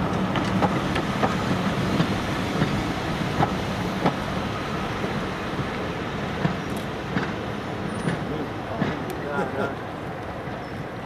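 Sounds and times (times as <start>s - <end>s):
train engine hum: 0.0s - 11.0s
train wheels clicking over rail joints: 0.0s - 11.0s.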